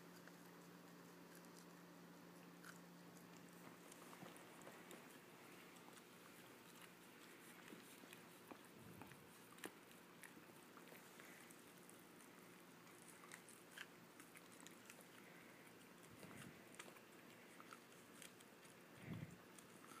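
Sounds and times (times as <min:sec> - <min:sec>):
dog crunching corn: 0:00.0 - 0:20.0.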